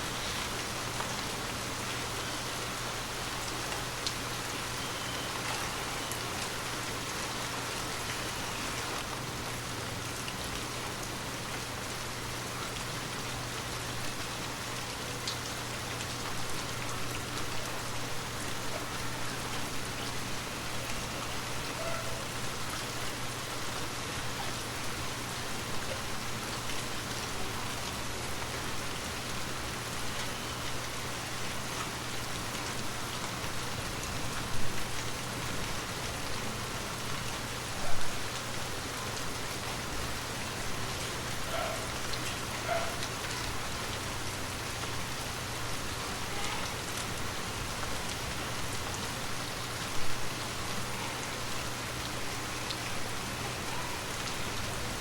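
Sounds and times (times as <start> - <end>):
gentle rain patter: 0.0 - 55.0.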